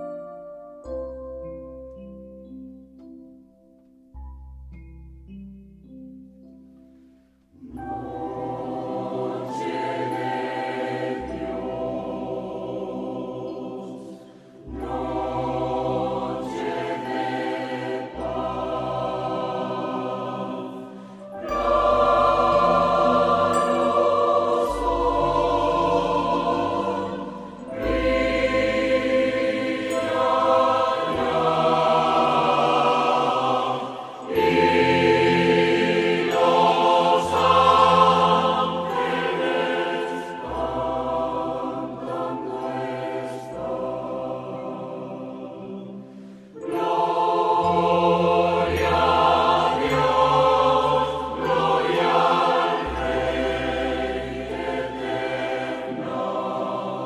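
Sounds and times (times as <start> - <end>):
mixed choir singing a carol: 7.6 - 57.0.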